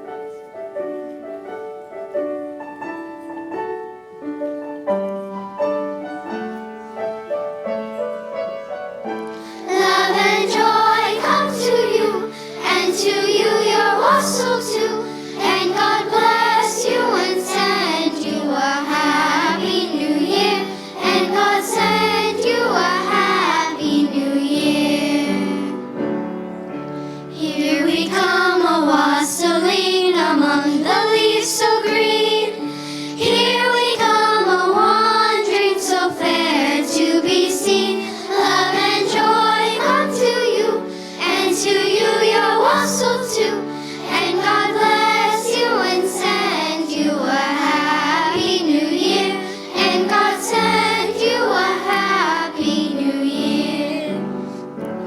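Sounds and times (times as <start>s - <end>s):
children's choir singing: 4.9s - 55.0s.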